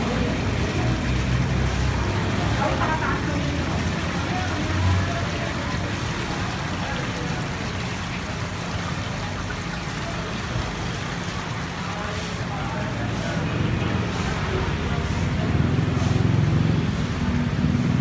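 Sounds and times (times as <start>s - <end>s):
heavy vehicle engine running: 0.0s - 18.0s
road traffic: 0.0s - 18.0s.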